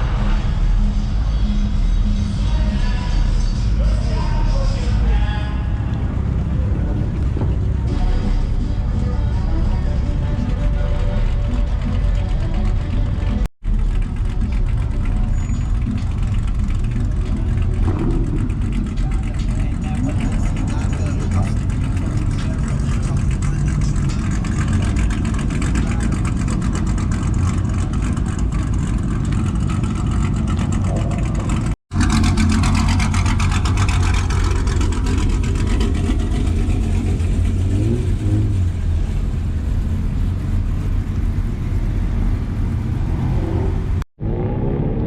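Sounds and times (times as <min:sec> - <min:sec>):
car engines rumbling and revving: 0:00.0 - 0:45.0.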